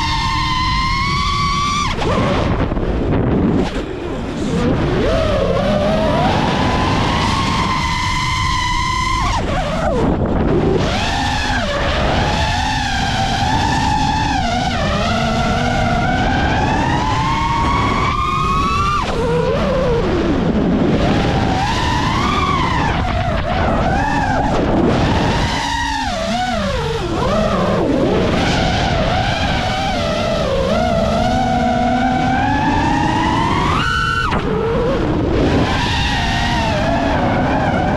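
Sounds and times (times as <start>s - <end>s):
quadcopter motors whining: 0.0s - 37.9s
wind rushing: 1.0s - 37.9s.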